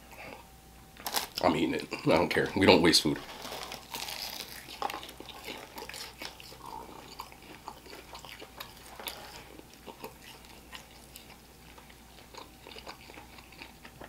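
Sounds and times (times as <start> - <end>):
person chewing crunchy food: 0.0 - 2.2, 3.2 - 14.0.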